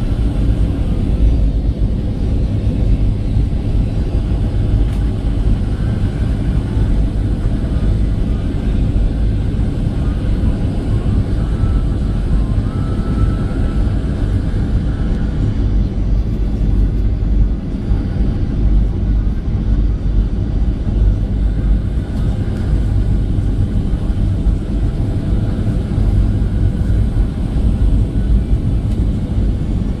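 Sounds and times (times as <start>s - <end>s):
faint high whine: 0.0s - 30.0s
low rumble of engines and air: 0.0s - 30.0s.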